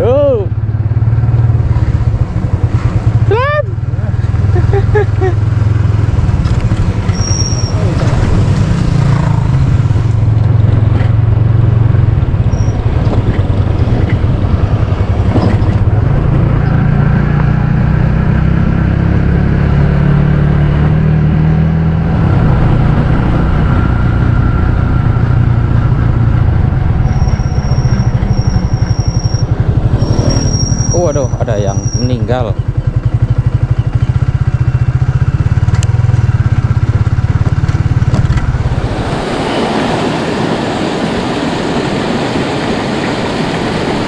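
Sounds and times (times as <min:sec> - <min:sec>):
motorcycle engine running: 0:00.0 - 0:39.2.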